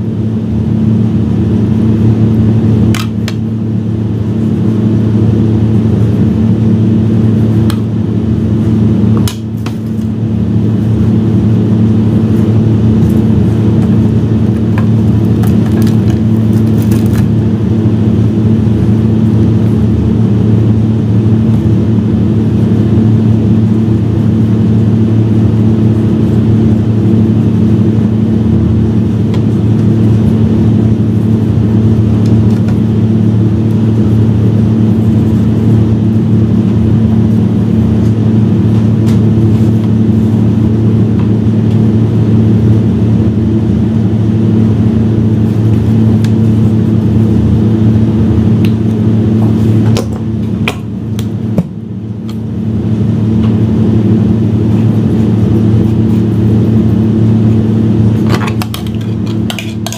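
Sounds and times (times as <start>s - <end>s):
loud low mechanical hum: 0.0s - 59.9s.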